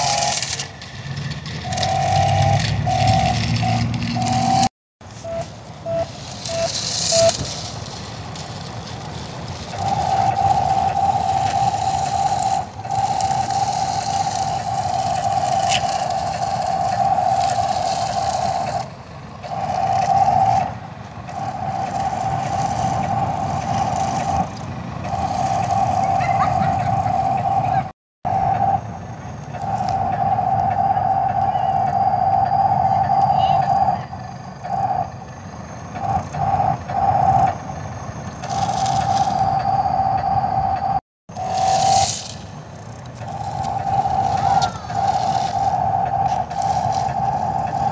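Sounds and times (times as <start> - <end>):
continuous rushing noise: 0.0 - 47.9
electric motor whining: 0.0 - 47.9.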